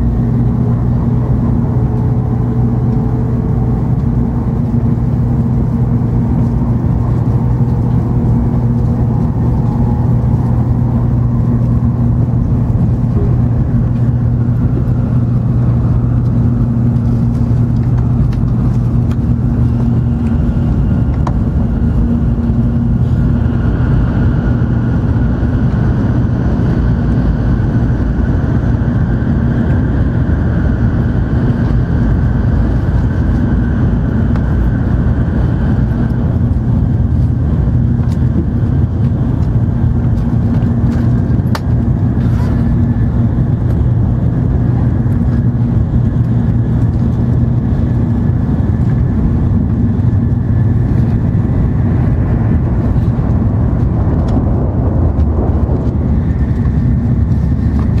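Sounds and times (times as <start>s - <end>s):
low train rumble: 0.0s - 58.0s.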